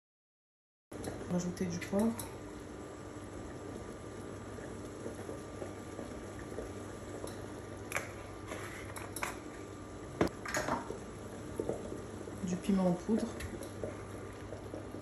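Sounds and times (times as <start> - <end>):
soup bubbling in a pot: 1.0 - 15.0.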